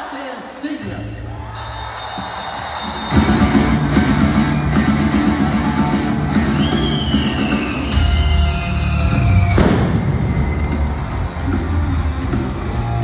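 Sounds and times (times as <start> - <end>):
hard rock band playing: 2.3 - 13.0.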